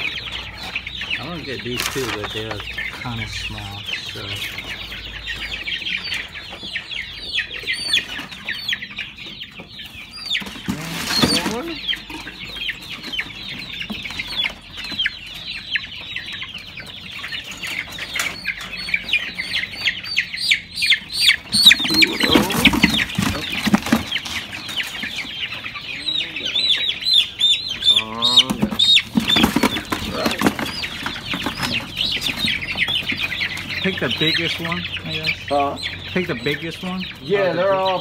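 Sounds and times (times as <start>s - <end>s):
baby chicks peeping: 0.0s - 38.0s.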